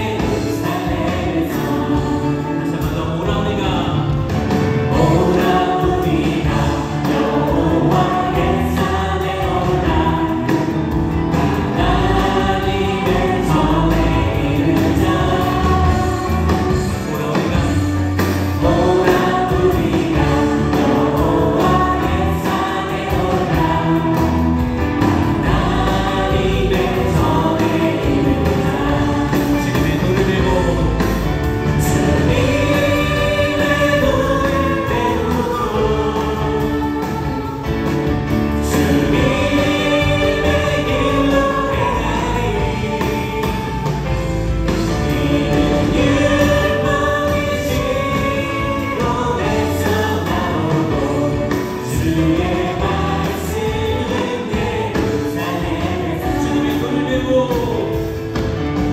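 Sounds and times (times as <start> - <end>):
group singing worship song: 0.0 - 58.9
live band playing: 0.0 - 58.9.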